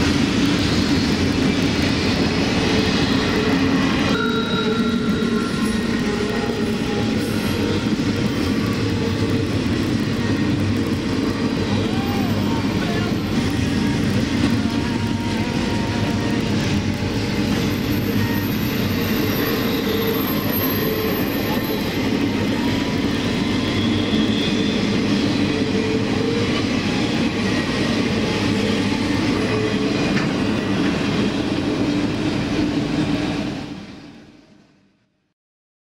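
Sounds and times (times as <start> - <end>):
freight train rolling past: 0.0 - 35.1.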